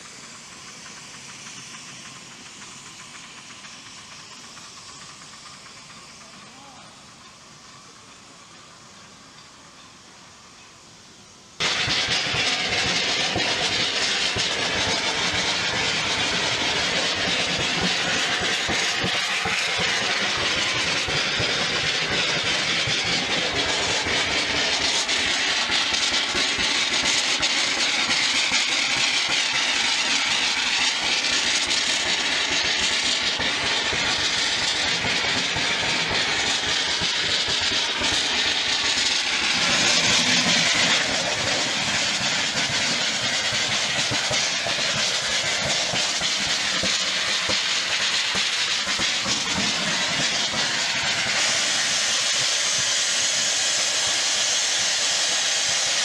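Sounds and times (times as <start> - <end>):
miniature train running: 0.0 - 56.0
rail noise: 0.0 - 56.0.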